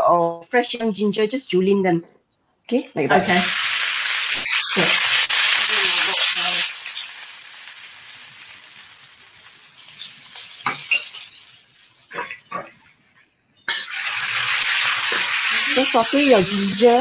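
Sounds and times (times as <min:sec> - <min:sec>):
hot oil sizzling in wok: 0:03.2 - 0:17.0.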